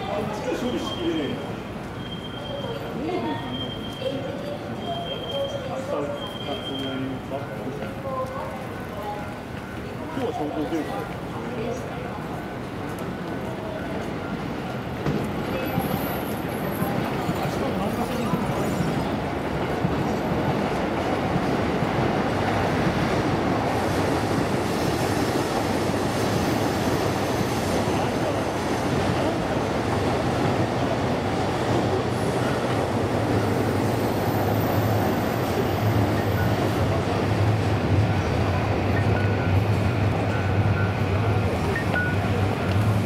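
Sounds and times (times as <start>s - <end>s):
train rumbling on tracks: 0.0s - 43.0s.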